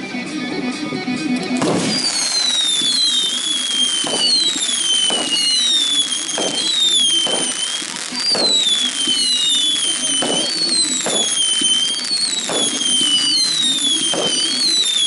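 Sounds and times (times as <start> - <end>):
firework pops: 1.4 - 15.0
whistling fireworks: 1.5 - 15.0.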